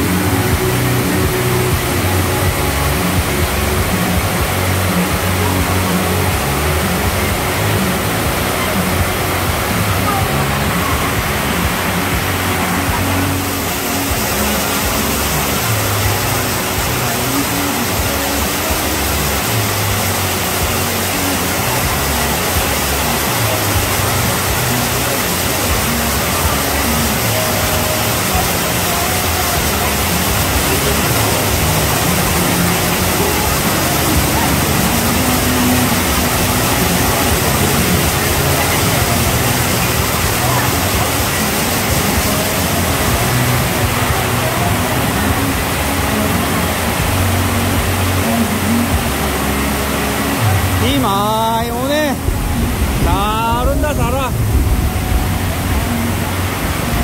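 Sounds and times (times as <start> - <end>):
heavy rain on paved road: 0.0 - 57.0
vehicle engine humming: 0.0 - 57.0.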